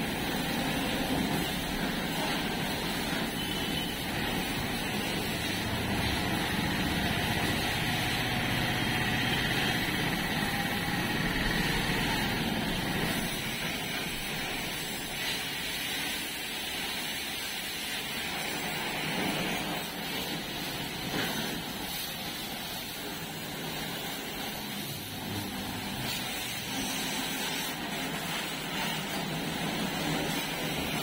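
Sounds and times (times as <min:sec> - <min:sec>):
pressure washer jet spraying: 0:00.0 - 0:31.0.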